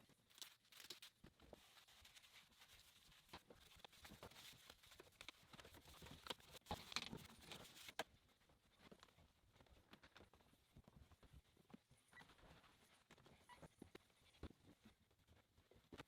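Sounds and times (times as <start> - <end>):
faint clicks and scrapes: 0.0 - 16.0.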